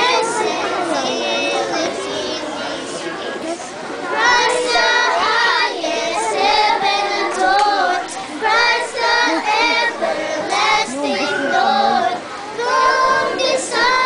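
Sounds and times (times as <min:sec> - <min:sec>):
girls singing together: 0:00.0 - 0:03.4, 0:04.1 - 0:14.0.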